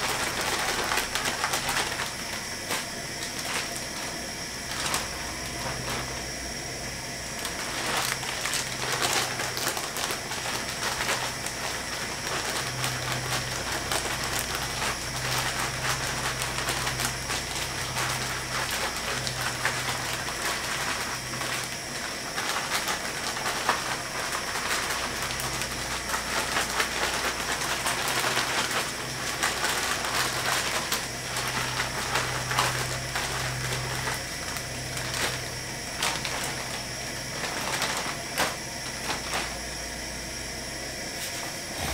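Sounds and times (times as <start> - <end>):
hot oil crackling and hissing: 0.0 - 41.9.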